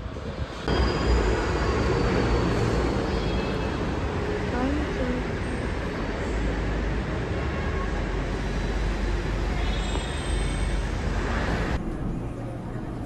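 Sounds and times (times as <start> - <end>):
train rumbling: 0.0 - 13.0
train running noise from inside: 0.0 - 13.0.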